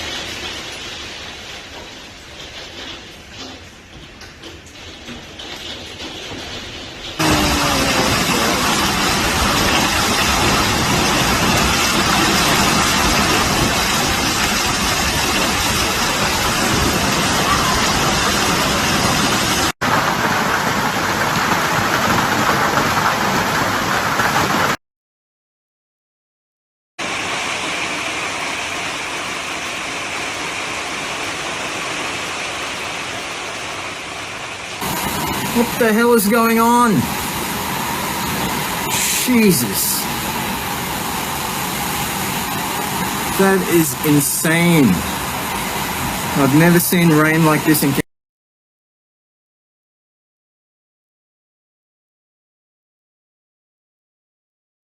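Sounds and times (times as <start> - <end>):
heavy hail and torrential rain: 0.0 - 24.8, 27.0 - 48.0.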